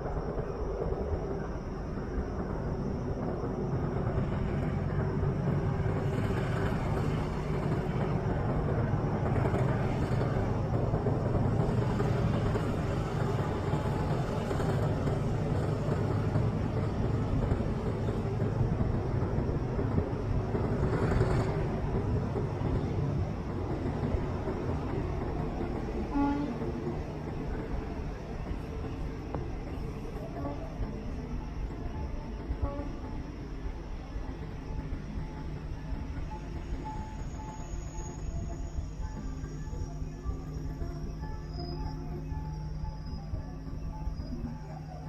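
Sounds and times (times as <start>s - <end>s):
train rumbling along track: 0.0s - 45.0s.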